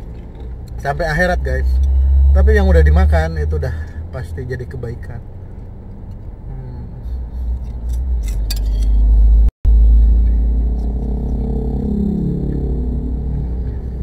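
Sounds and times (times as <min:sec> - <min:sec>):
deep vehicle rumble: 0:00.0 - 0:14.0.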